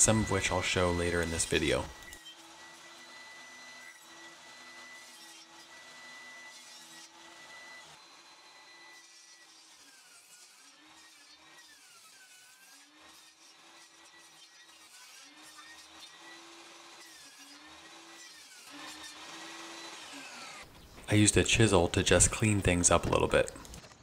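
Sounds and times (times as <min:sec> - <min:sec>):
table saw cutting wood: 0:00.0 - 0:23.5.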